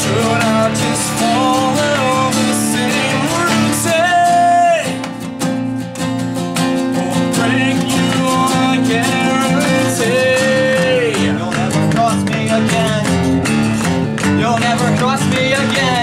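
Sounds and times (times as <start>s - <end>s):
person singing: 0.0s - 5.2s, 6.7s - 13.5s, 14.1s - 16.0s
acoustic guitars strummed: 0.0s - 16.0s.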